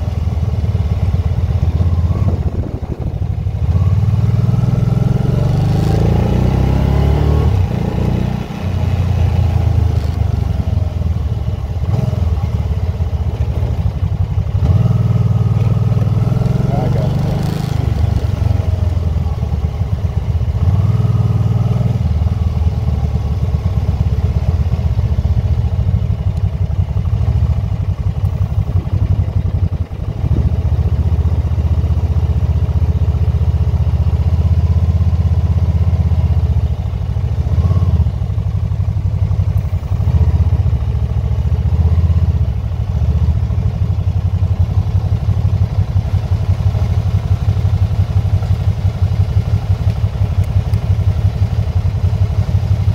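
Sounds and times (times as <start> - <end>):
motorcycle engine rumble: 0.0 - 52.9.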